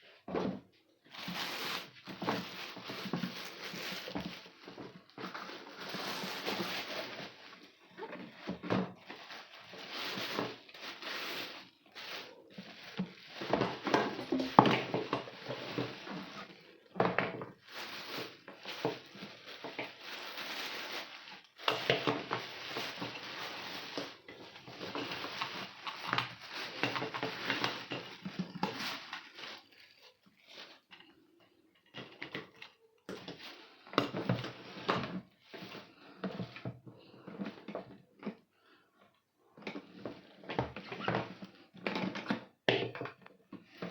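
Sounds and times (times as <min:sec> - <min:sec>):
packaging rustling and clattering: 0:00.1 - 0:38.5, 0:39.6 - 0:43.9.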